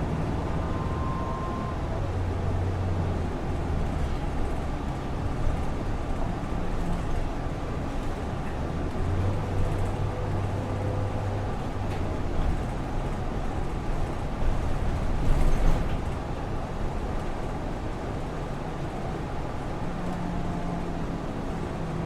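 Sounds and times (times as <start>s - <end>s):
road traffic noise: 0.0s - 22.0s
vehicle engine hum: 0.0s - 22.0s.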